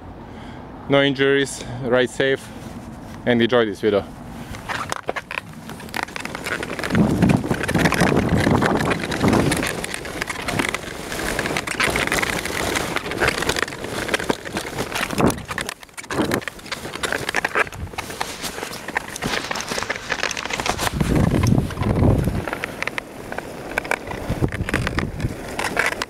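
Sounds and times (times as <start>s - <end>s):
wheels rumbling over grass and leaves: 1.6s - 26.0s.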